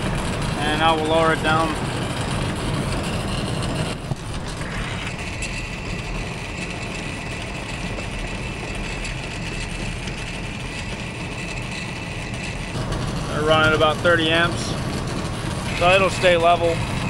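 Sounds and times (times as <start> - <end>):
machinery humming: 0.0 - 17.0
steady high whine: 0.0 - 17.0.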